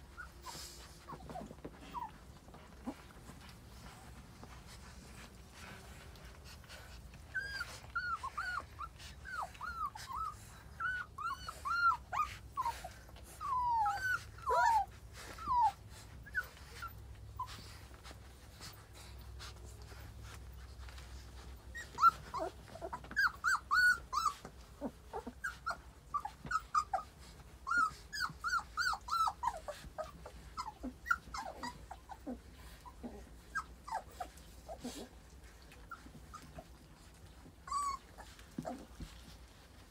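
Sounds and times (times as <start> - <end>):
puppies squeaking and whimpering: 0.0 - 39.9.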